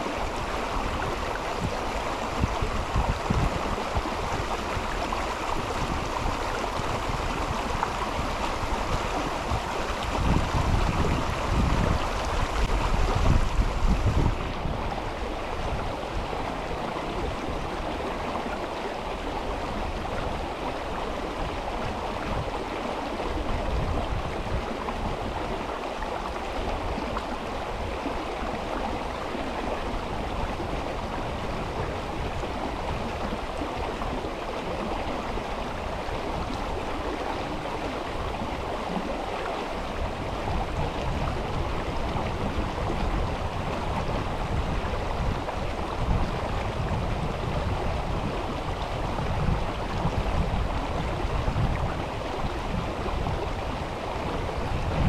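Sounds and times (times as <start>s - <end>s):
river water rushing over stones: 0.0s - 55.0s.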